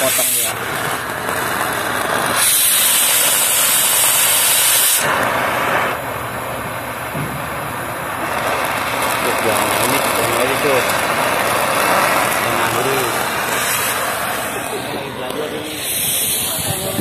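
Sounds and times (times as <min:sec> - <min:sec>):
cutting torch hissing: 0:00.0 - 0:17.0.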